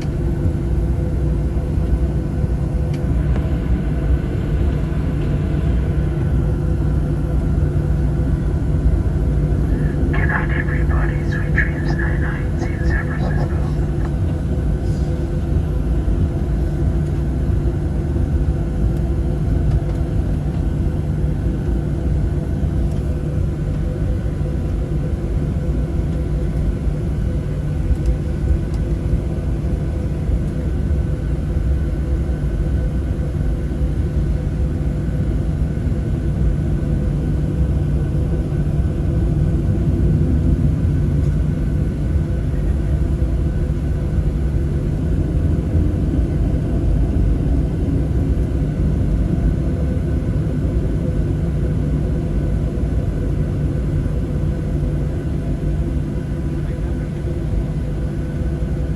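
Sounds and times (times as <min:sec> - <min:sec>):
jet engine cabin rumble: 0:00.0 - 0:58.9.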